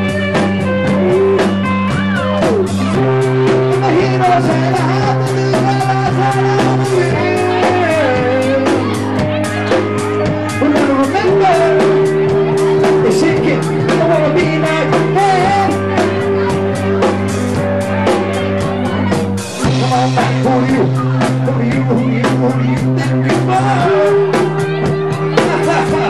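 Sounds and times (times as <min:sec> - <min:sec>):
drums beating: 0:00.0 - 0:26.0
electric bass: 0:00.0 - 0:26.0
electric guitar: 0:00.0 - 0:26.0
man singing: 0:02.2 - 0:26.0.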